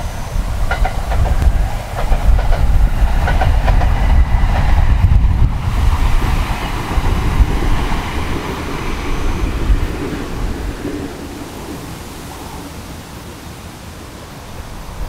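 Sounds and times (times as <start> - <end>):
train wheels clicking over rail joints: 0.0 - 12.8
wind buffeting microphone: 0.0 - 15.0.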